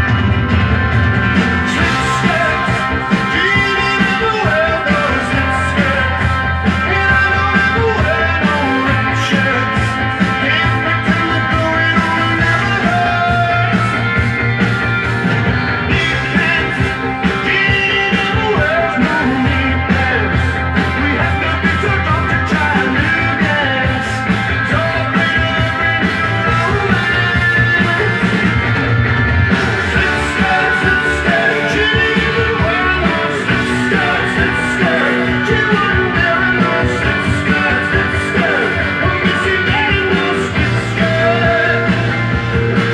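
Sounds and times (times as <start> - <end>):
rock music from a record: 0.0 - 42.9.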